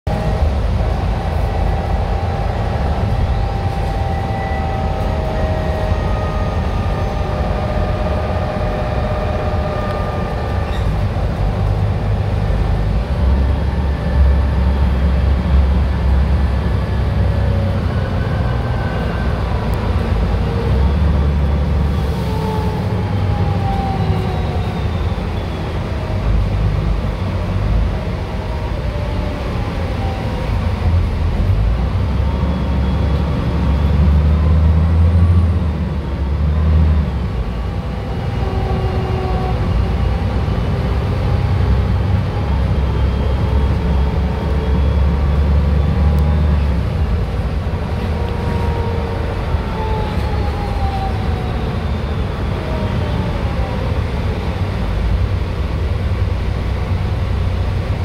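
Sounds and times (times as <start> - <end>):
bus diesel engine rumbling: 0.1 - 58.0.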